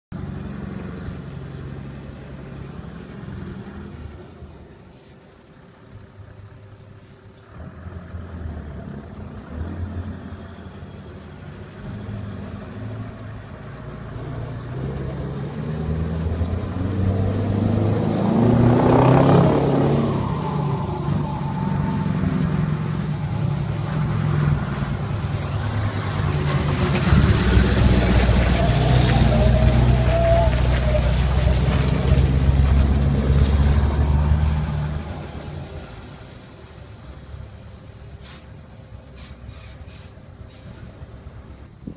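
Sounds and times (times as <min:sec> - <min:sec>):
diesel truck engine running: 0:00.1 - 0:41.9.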